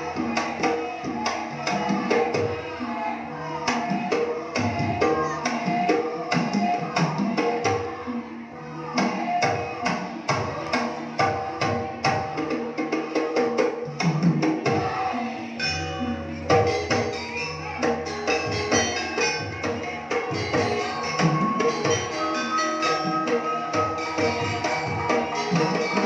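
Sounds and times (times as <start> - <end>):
pitched percussion dance music: 0.0 - 26.0.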